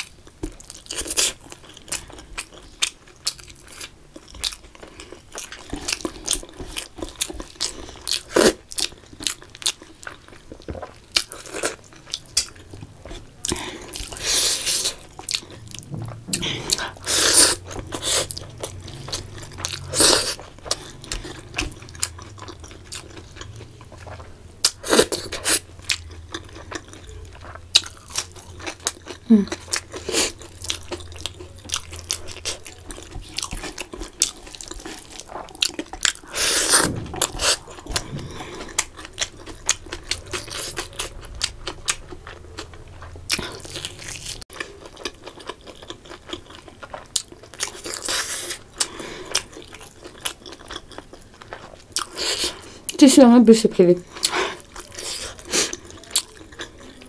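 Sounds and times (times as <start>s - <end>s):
person chewing food: 0.0s - 53.0s, 54.0s - 57.0s.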